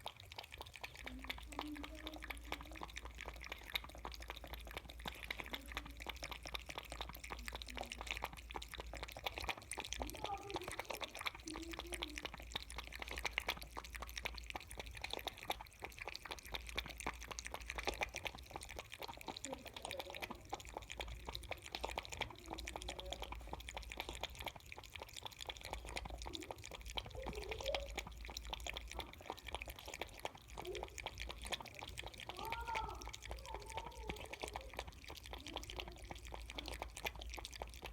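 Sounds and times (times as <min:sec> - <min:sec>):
kittens lapping milk: 0:00.0 - 0:37.9.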